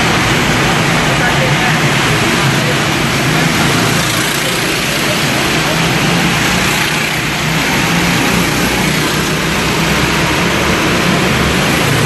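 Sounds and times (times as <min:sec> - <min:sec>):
go-kart engines running: 0:00.0 - 0:12.0.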